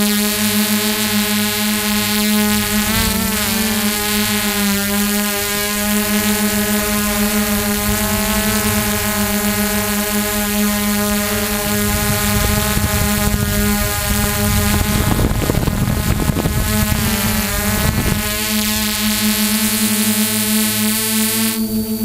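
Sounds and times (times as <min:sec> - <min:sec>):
drone propellers humming: 0:00.0 - 0:22.0
wind buffeting microphone: 0:01.8 - 0:19.4.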